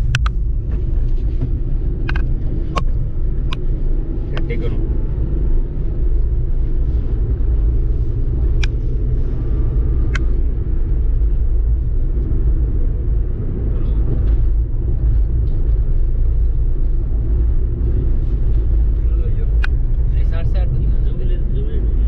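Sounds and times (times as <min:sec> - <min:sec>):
car engine and tyre rumble: 0:00.0 - 0:22.0.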